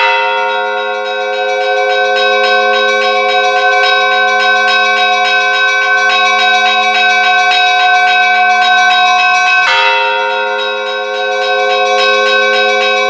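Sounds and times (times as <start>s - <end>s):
hum of large bells: 0.0s - 13.0s
peal of small church bells: 0.0s - 13.0s
sharp bell clash: 0.0s - 13.0s.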